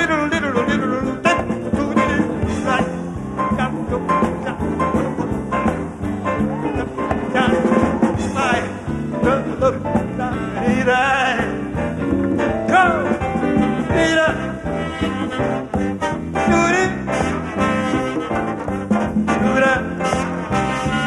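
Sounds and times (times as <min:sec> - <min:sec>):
calypso band playing: 0:00.0 - 0:21.0
keyboards: 0:00.0 - 0:21.0.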